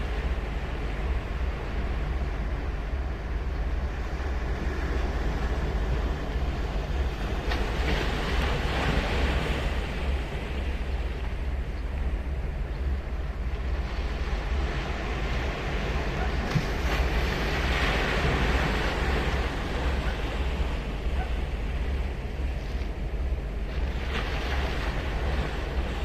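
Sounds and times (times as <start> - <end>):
ocean surf on a beach: 0.0 - 26.0
wind rumble on microphone: 0.0 - 26.0.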